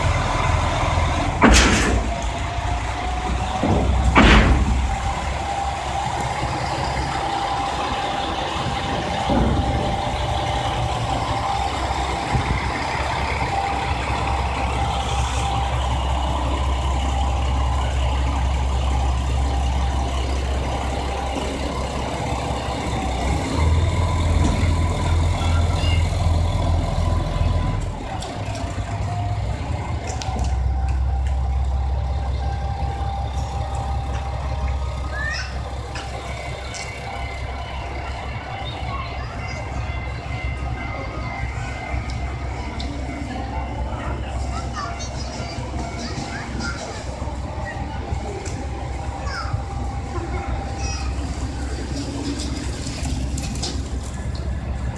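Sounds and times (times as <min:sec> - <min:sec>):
railcar diesel engine running: 0:00.0 - 0:54.9.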